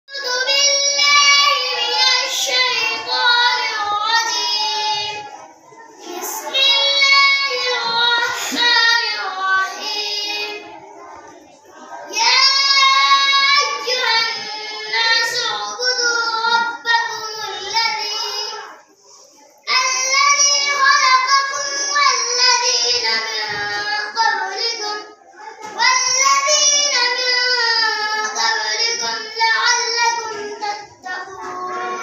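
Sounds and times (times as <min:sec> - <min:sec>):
boys chanting in unison: 0:00.1 - 0:32.0.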